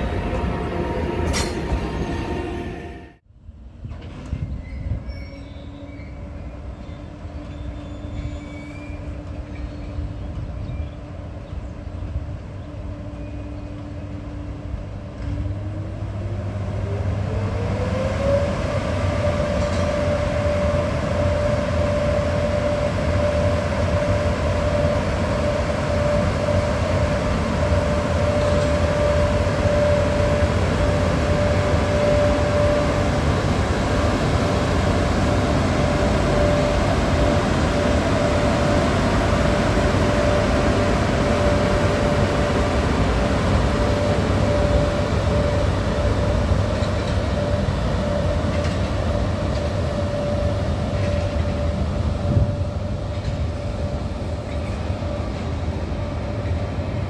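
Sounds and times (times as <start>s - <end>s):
electric locomotive whine: 0.0s - 57.0s.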